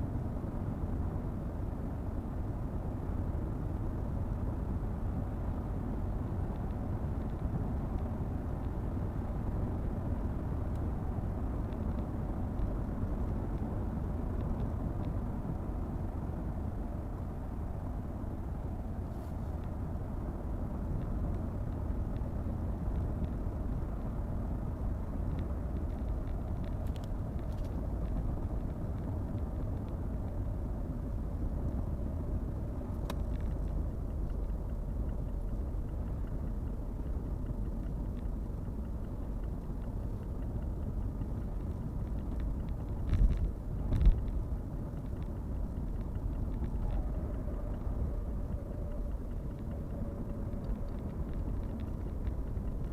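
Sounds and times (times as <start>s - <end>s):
car road and engine noise: 0.0s - 52.9s.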